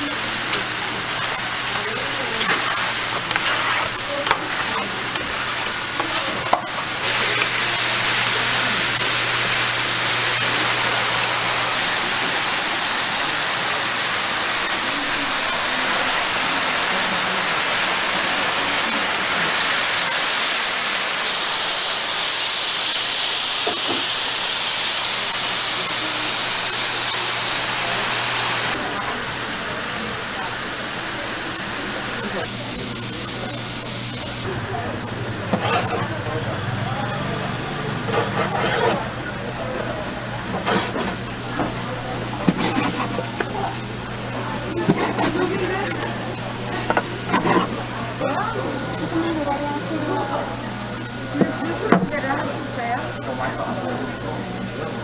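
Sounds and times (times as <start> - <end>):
liquid hissing on hot griddle: 0.0 - 34.5, 40.4 - 55.0.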